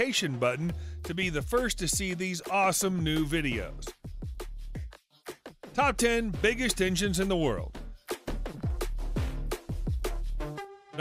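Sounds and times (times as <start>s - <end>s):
electronic music with kick drum: 0.6s - 11.0s.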